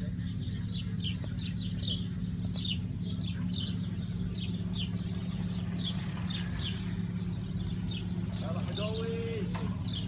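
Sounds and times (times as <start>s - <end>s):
birds chirping: 0.0s - 10.0s
steady low hum: 0.0s - 10.0s.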